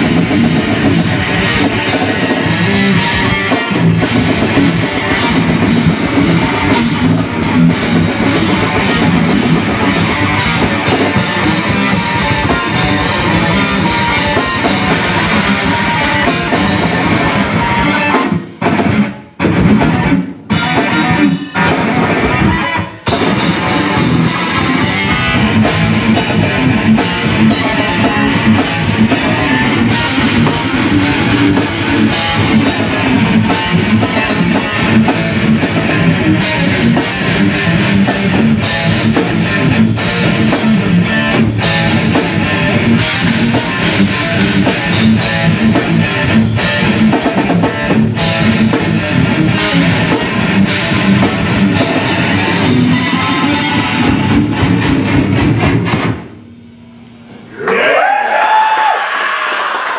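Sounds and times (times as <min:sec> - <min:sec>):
pounding drum kit: 0:00.0 - 0:56.5
distorted electric guitar riffing: 0:00.0 - 0:58.0.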